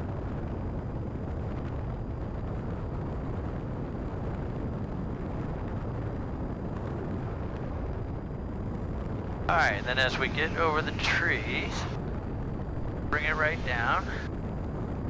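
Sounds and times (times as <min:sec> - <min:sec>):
airplane engine and propeller drone: 0:00.0 - 0:15.0.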